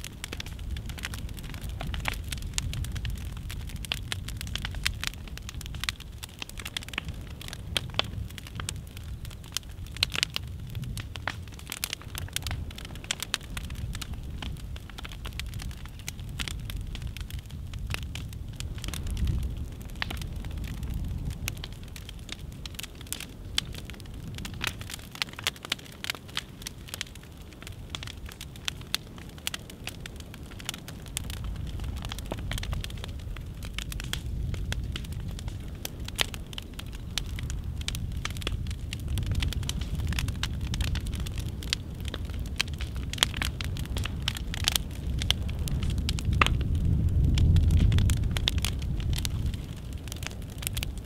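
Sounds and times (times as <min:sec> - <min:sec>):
fire crackling and popping: 0:00.0 - 0:51.0
low rumble of fire: 0:00.0 - 0:51.0.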